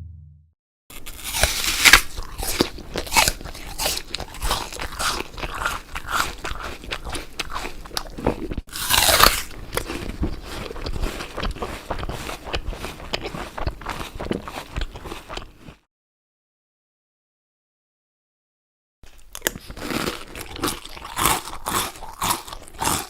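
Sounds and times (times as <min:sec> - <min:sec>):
crunchy apple bites and chewing: 0:00.9 - 0:15.9, 0:19.1 - 0:23.0.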